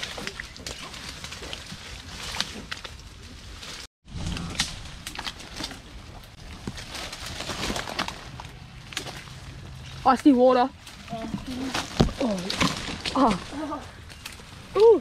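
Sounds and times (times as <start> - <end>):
twigs snapping: 0.0 - 10.0, 10.8 - 15.0
branches and leaves rustling: 0.0 - 15.0.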